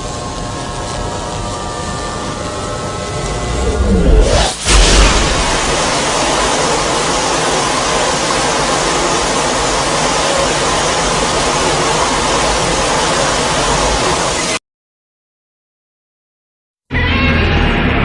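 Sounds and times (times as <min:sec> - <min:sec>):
loud rushing hiss: 0:00.0 - 0:14.6.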